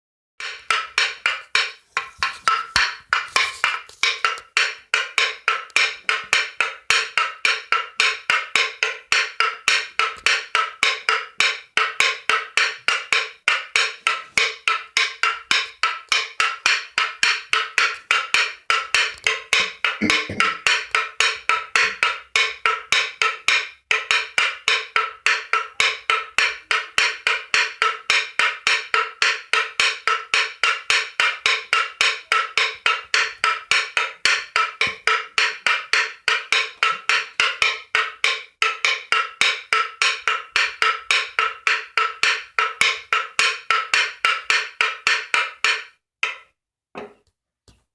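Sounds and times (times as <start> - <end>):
wooden clapper knocking: 0.4 - 26.4, 28.7 - 47.2.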